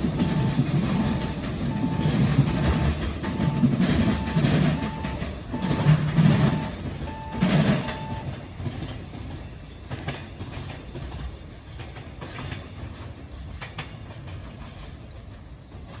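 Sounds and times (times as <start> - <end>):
train wheels rumbling: 0.0 - 16.0
wheels clicking over rail joints: 0.0 - 16.0.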